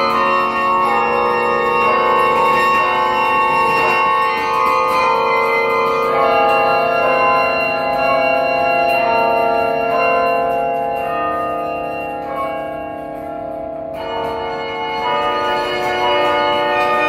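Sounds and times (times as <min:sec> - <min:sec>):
carillon bells playing a melody: 0:00.0 - 0:17.0.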